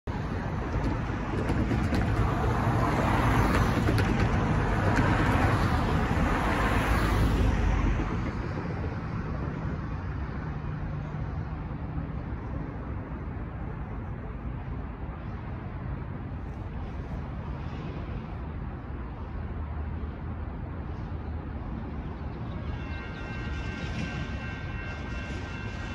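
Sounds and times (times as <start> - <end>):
steady traffic rumble: 0.0 - 25.9.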